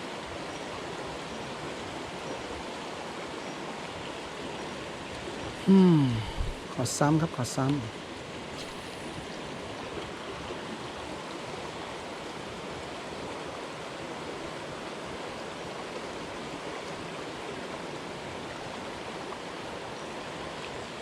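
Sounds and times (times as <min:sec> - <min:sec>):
stream flowing: 0:00.0 - 0:21.0.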